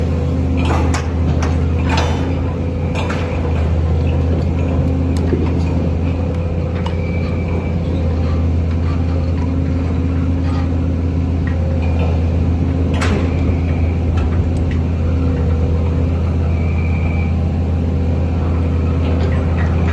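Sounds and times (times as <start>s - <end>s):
diesel engine droning: 0.0s - 19.9s.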